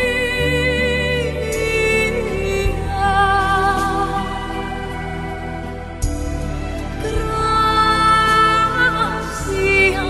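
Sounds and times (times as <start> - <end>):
low bass line: 0.0 - 10.0
slow background music: 0.0 - 10.0.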